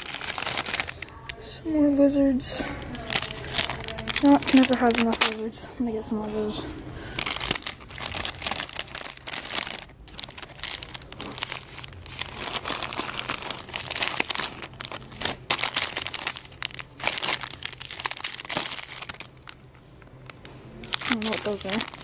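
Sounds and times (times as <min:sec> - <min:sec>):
plastic bags crinkling: 0:00.0 - 0:01.5, 0:02.6 - 0:05.6, 0:07.0 - 0:22.0.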